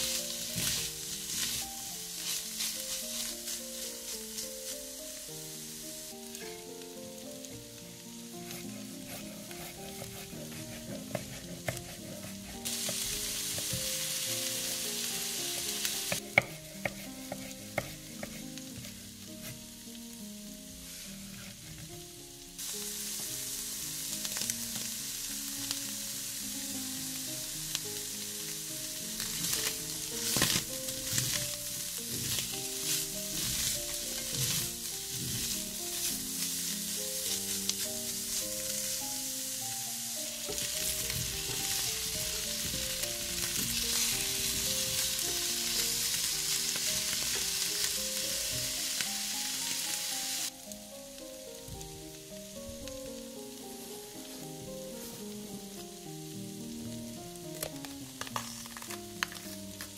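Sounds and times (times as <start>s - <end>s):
soft background music: 0.0s - 59.9s
vegetables sizzling in a pan: 0.0s - 59.9s.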